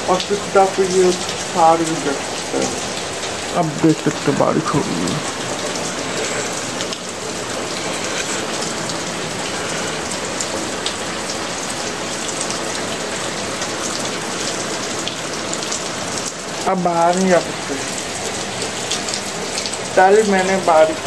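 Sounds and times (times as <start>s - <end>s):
heavy rain on concrete: 0.0s - 21.0s.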